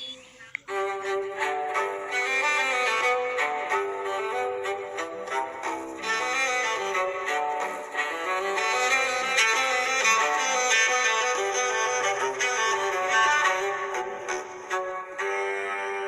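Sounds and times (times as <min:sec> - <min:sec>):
ringtone string melody: 0:00.0 - 0:16.0.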